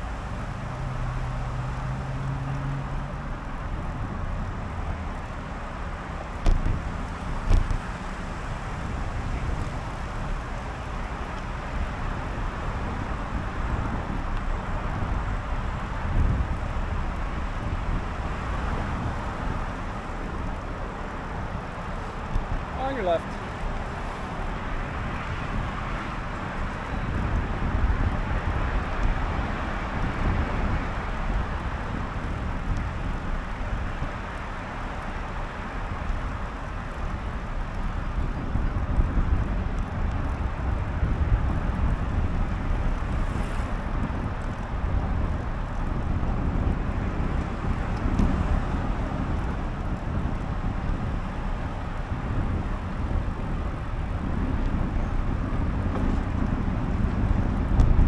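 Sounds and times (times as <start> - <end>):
road traffic passing: 0.0 - 58.0
wind rush on microphone: 0.0 - 58.0.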